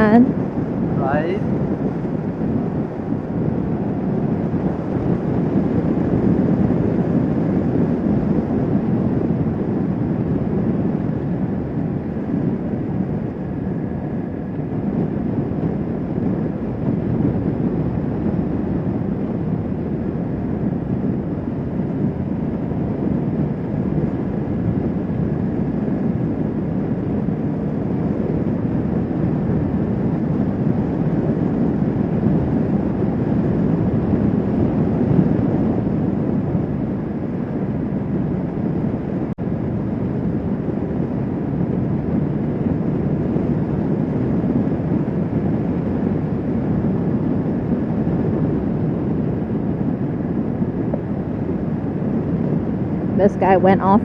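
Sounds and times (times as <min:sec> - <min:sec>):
motorcycle engine drone: 0:00.0 - 0:54.0
wind rush on microphone: 0:00.0 - 0:54.0.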